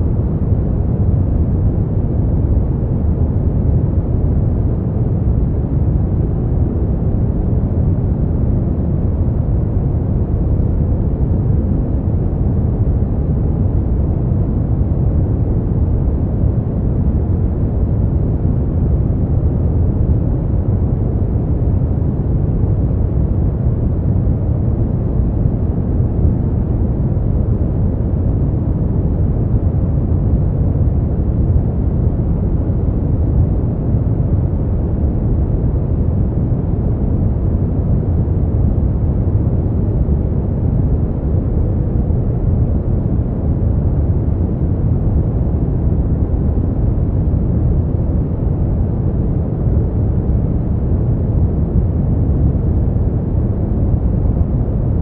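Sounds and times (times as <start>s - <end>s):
deep steady white noise: 0.0s - 55.0s.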